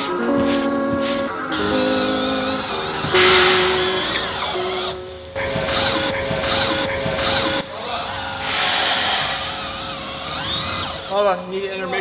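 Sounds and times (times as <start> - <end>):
power tool motor whine: 0.0 - 5.0, 5.7 - 11.2.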